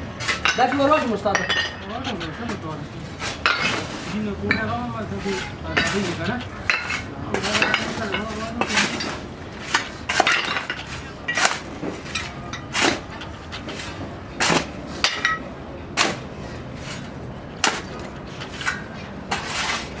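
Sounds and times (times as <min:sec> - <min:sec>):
metal clanking and tapping: 0:00.1 - 0:20.0.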